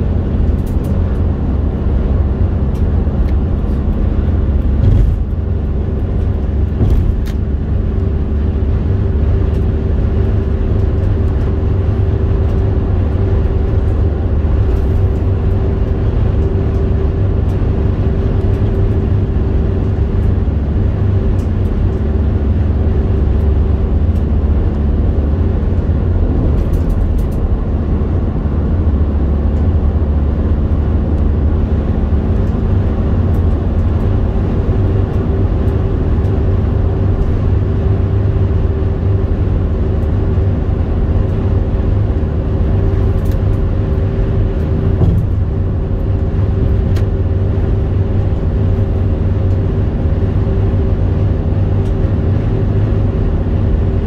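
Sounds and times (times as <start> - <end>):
car road rumble: 0.0 - 54.0.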